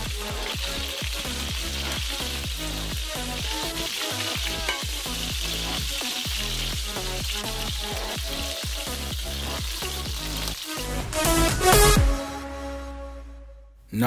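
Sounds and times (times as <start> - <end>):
chicken sizzling in oil: 0.0 - 12.0
background music with beat: 0.0 - 13.5.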